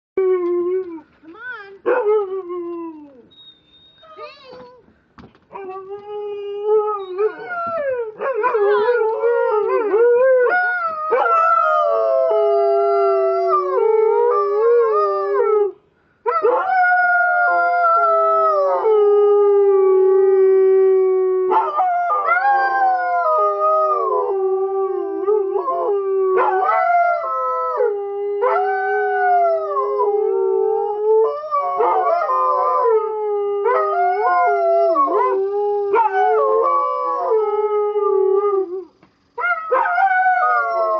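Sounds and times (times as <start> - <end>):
dogs howling: 5.6 - 15.7, 16.3 - 40.9.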